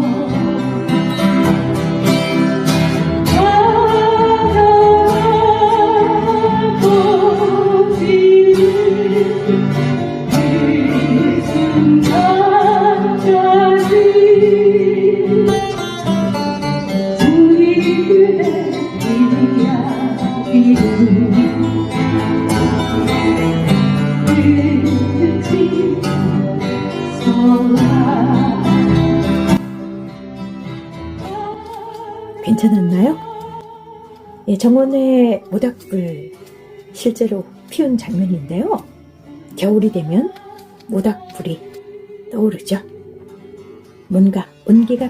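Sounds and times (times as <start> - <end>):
person singing slow ballad: 0.0 - 44.8
guitar: 0.0 - 45.0.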